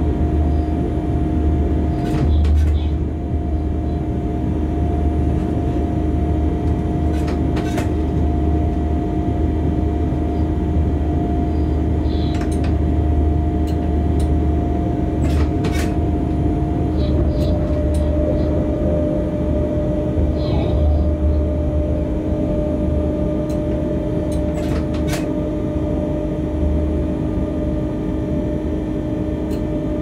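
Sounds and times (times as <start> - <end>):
locomotive cab rumble: 0.0 - 30.0
steady whine: 0.0 - 30.0.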